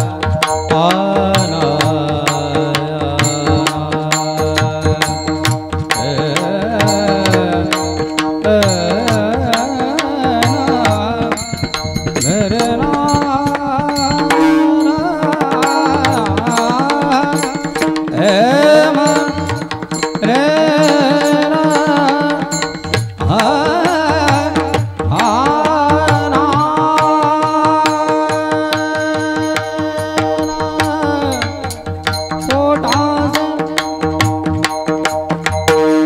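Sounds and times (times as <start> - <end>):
hand drums: 0.0 - 36.0
man singing devotional song: 0.0 - 36.0.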